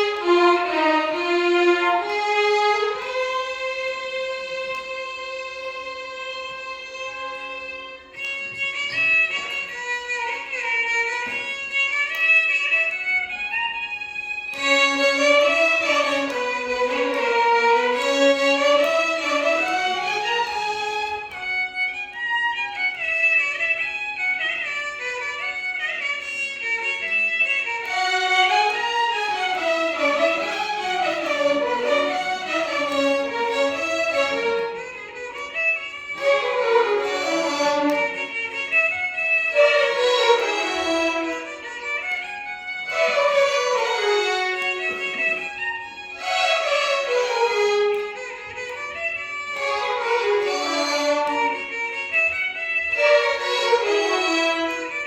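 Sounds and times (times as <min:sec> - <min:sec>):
violin orchestra playing: 0:00.0 - 0:55.0.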